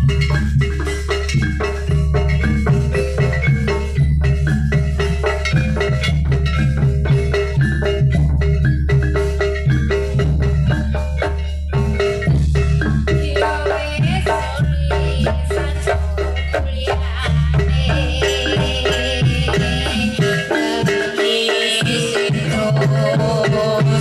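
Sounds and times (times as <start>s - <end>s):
mallet percussion fast notes: 0.0s - 24.0s
wavering high tone: 0.0s - 24.0s.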